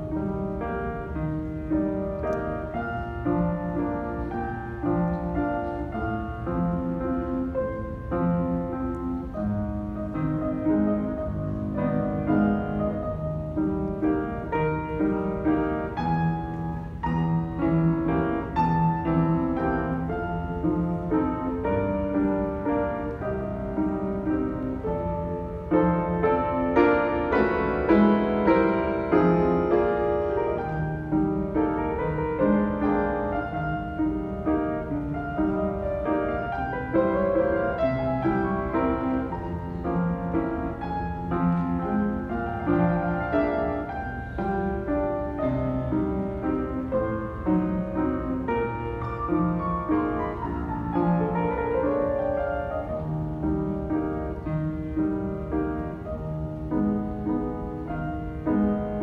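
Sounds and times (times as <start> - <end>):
solo piano piece: 0.0 - 59.0.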